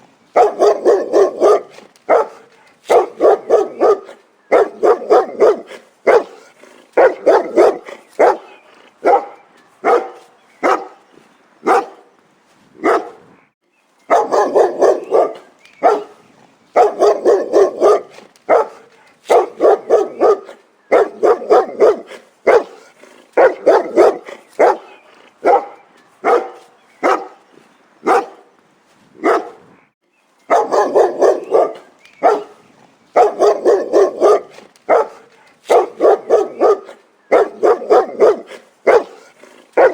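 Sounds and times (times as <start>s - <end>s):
dog barking: 0.3s - 11.0s, 11.6s - 12.1s, 12.8s - 13.3s, 14.1s - 16.2s, 16.8s - 27.4s, 28.0s - 28.5s, 29.2s - 29.7s, 30.5s - 32.6s, 33.2s - 39.9s.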